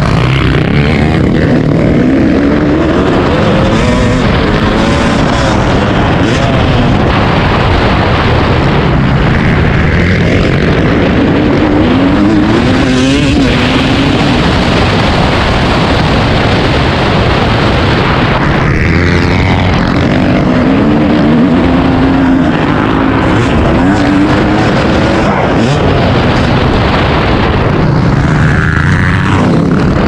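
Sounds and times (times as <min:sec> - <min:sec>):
dirt bike engine revving: 0:00.0 - 0:30.0
heavy rushing noise: 0:00.0 - 0:30.0.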